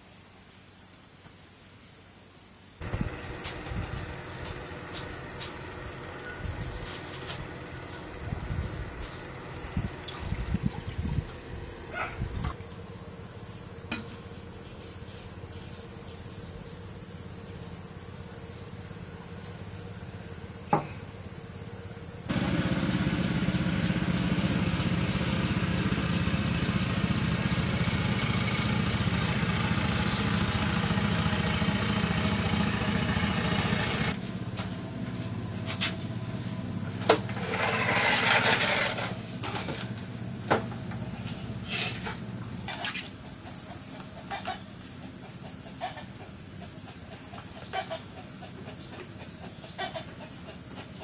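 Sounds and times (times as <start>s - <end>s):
small engine running: 2.8s - 14.6s, 17.2s - 51.0s.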